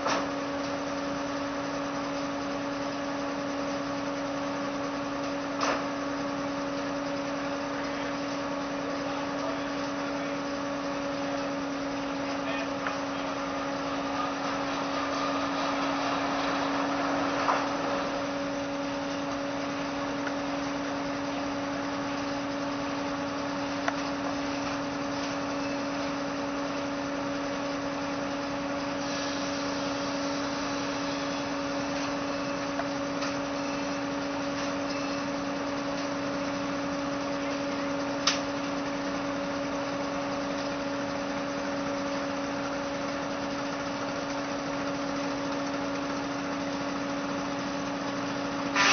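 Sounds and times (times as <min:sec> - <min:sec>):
tractor driven sawmill humming: 0:00.0 - 0:48.9.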